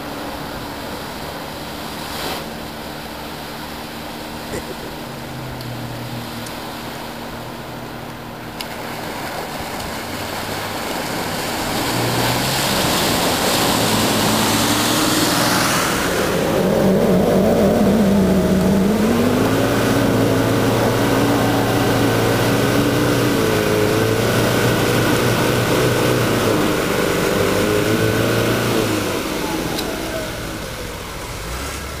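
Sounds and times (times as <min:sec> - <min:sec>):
off-road vehicle engine under load: 0:00.0 - 0:32.0
water surging: 0:00.0 - 0:32.0.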